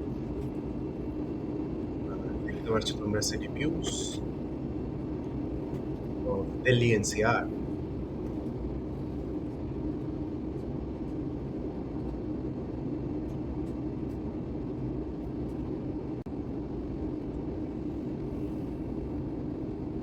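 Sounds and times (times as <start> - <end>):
airliner cabin engine rush: 0.0 - 20.0.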